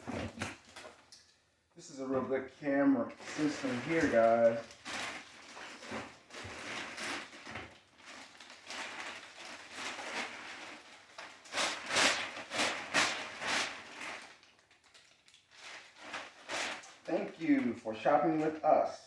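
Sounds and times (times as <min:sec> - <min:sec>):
packaging rustling and scraping: 0:03.2 - 0:18.8.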